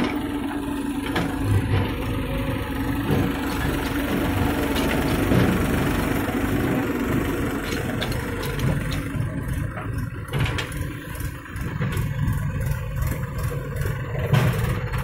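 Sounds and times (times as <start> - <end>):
tractor diesel engine rumbling: 0.0 - 15.0.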